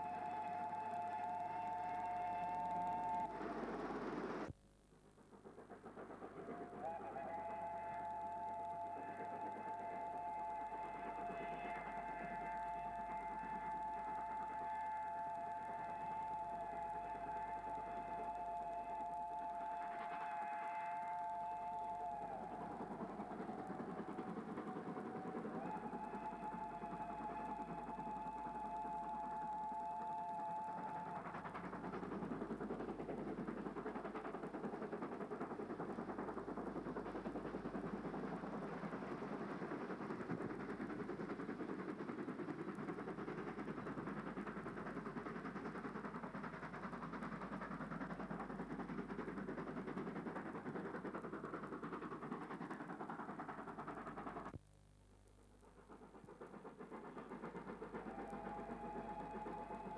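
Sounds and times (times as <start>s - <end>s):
steam locomotive exhaust: 0.0s - 59.9s.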